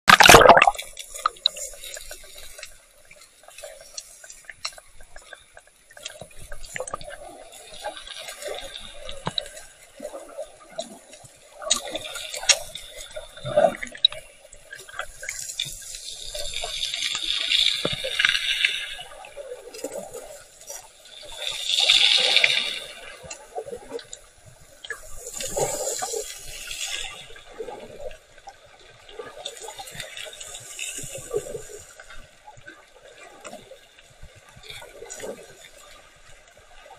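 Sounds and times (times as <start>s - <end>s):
muffled underwater water movement: 0.1s - 36.9s
swishing bubbling water: 0.1s - 36.9s.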